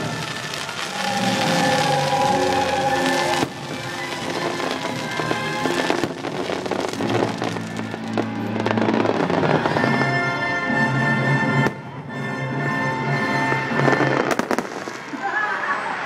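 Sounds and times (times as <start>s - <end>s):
fireworks bursting and crackling: 0.0s - 10.8s, 13.4s - 16.0s
music: 0.0s - 15.0s.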